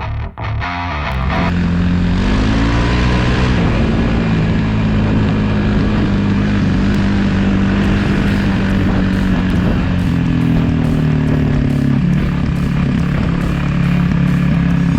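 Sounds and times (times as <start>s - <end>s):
dirt bike engine running: 1.4s - 14.9s.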